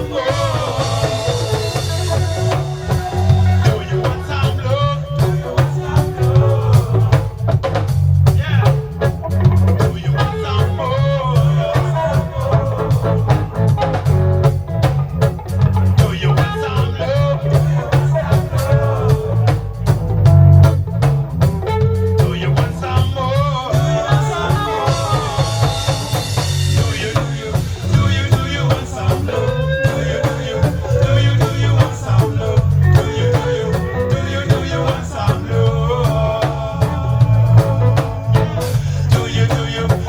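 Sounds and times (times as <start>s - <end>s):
drum kit: 0.0s - 40.0s
heavy bass: 0.0s - 40.0s
reggae band playing live: 0.0s - 40.0s.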